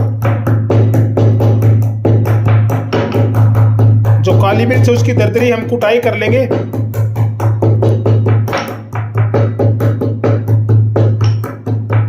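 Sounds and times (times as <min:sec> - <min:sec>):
background music with beat: 0:00.0 - 0:12.0
pestle pounding in mortar: 0:00.0 - 0:12.0.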